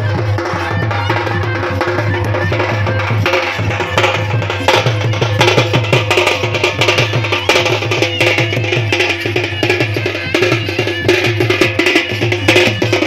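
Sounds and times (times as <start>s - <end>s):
stick-beaten drums: 0.0s - 13.0s.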